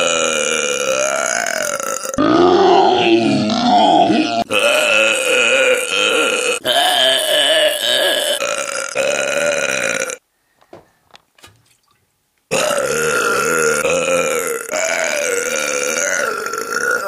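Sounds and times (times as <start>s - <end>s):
long belches: 0.0s - 10.2s, 12.5s - 17.0s.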